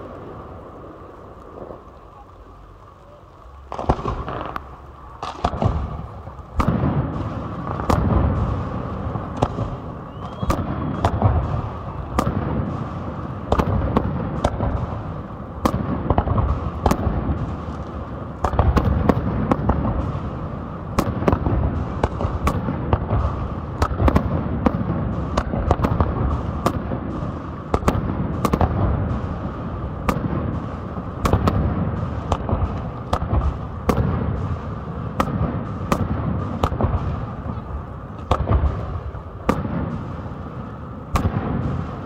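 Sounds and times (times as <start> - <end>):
firework bangs: 0.0 - 42.0.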